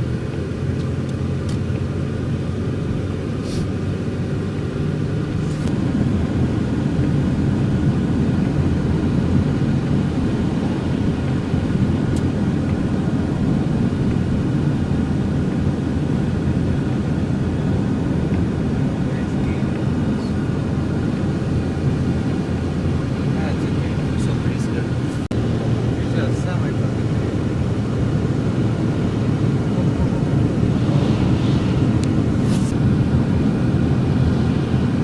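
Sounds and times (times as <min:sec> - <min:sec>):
engine and tyre rumble: 0:00.0 - 0:35.0.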